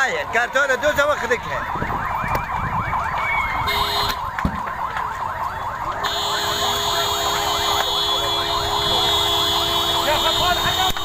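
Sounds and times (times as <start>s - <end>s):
electronic siren yelping: 0.4s - 11.0s.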